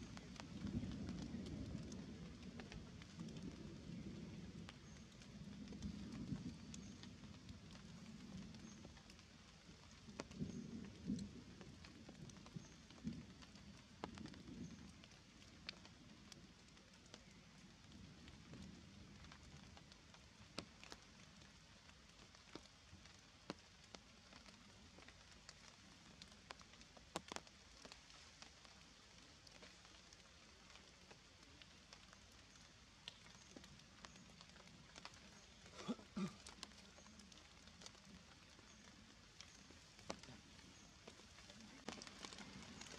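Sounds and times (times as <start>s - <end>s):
water dripping onto leaves: 0.0s - 42.9s.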